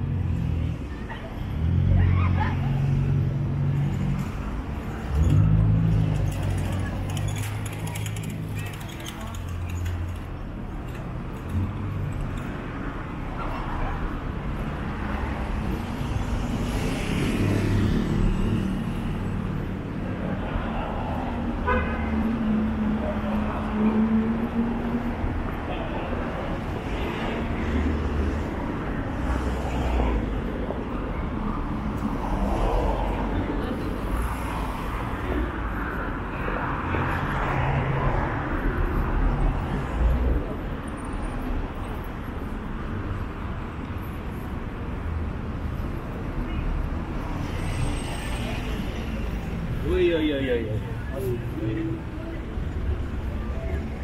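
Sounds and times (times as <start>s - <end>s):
hum of crowded pavement: 0.0s - 54.0s
rumble of road traffic: 0.0s - 54.0s.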